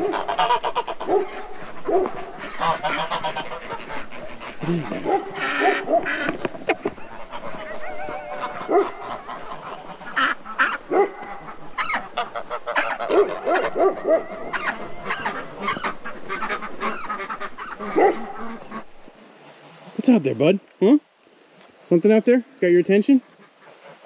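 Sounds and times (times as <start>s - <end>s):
geese honking: 0.0s - 20.2s.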